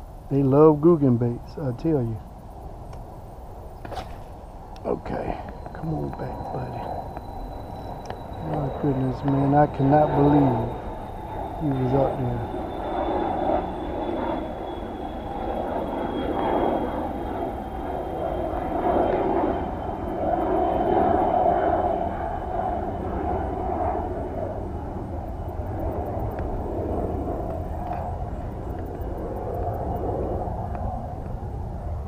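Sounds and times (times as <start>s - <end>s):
distant engine drone: 0.0s - 32.0s.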